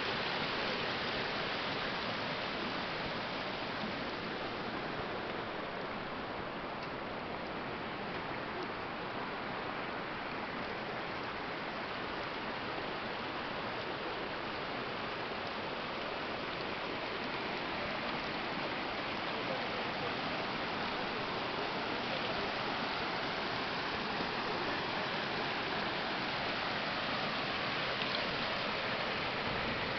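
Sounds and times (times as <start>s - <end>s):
mountain stream rushing: 0.0s - 29.9s.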